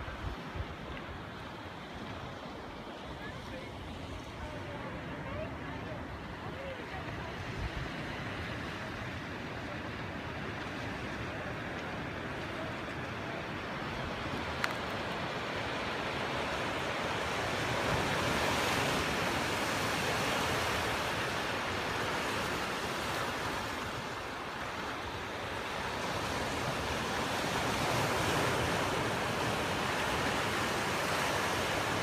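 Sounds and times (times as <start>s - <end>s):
surf washing against rocks: 0.0s - 32.0s.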